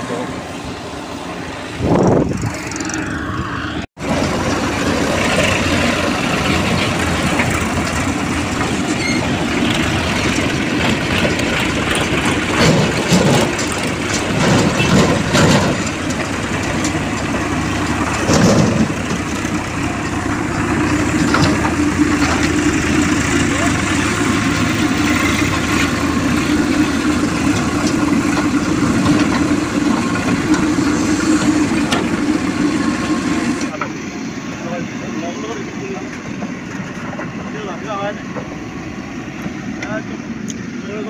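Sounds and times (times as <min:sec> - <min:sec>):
backhoe loader working: 0:00.0 - 0:41.0
diesel tractor engines running: 0:00.0 - 0:41.0.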